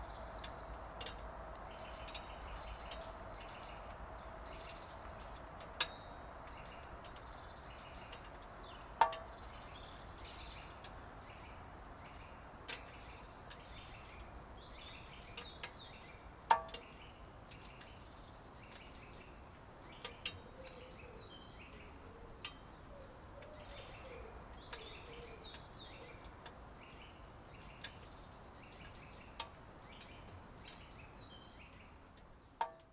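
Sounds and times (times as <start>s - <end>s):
birds chirping faintly: 0.0s - 32.9s.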